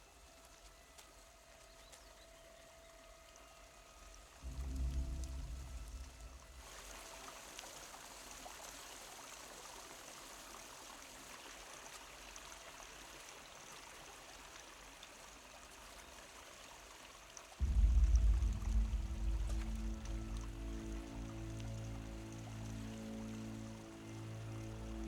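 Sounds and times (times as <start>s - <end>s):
low sustained music tones: 0.0s - 14.4s, 17.3s - 25.0s
running water rushing: 0.0s - 25.0s.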